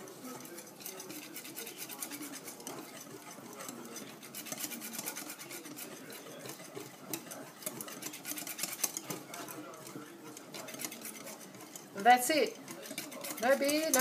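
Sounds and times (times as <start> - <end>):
whisk scraping in a bowl: 0.0 - 14.0.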